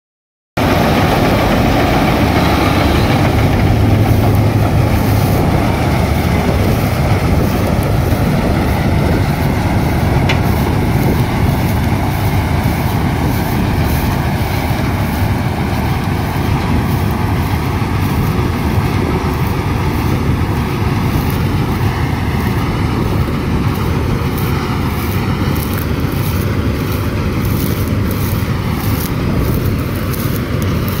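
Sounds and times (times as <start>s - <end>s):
combine harvester droning: 0.6s - 31.0s.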